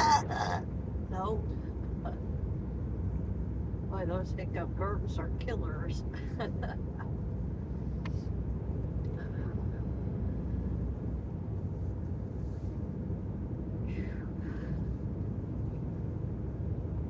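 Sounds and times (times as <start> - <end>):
road and engine noise in car: 0.0 - 17.0.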